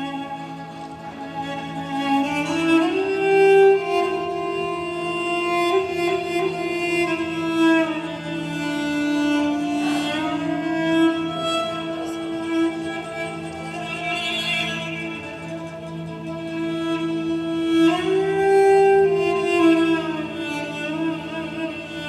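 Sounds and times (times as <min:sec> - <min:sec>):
bowed strings playing slow notes: 0:00.0 - 0:22.0.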